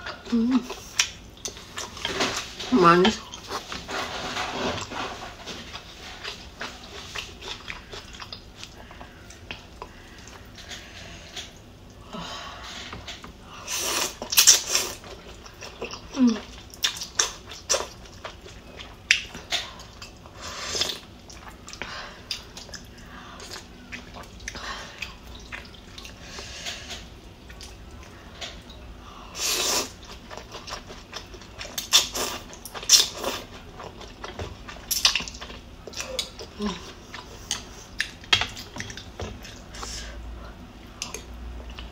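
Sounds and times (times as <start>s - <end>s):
noodles slurped and chewed: 0.0s - 12.0s, 12.8s - 40.1s.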